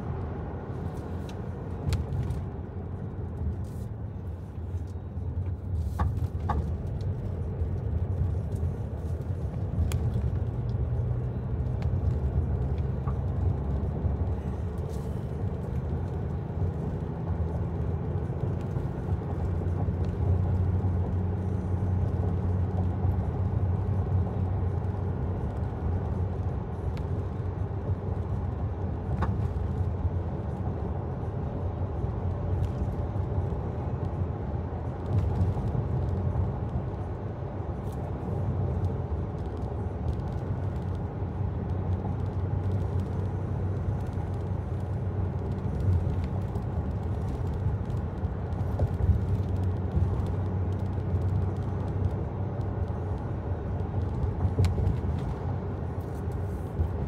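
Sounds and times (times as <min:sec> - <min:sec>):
vehicle motor low rumble: 0:00.0 - 0:57.0.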